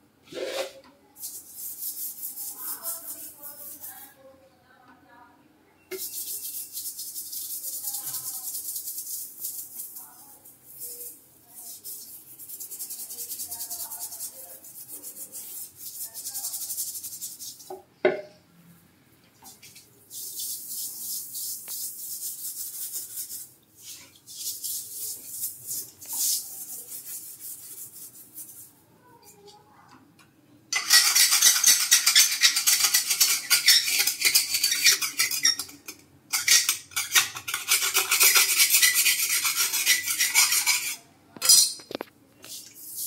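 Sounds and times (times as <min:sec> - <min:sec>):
scrub pad scrubbing grout: 0:00.3 - 0:04.2, 0:05.9 - 0:17.7, 0:19.5 - 0:28.8, 0:30.8 - 0:41.0, 0:42.5 - 0:43.0.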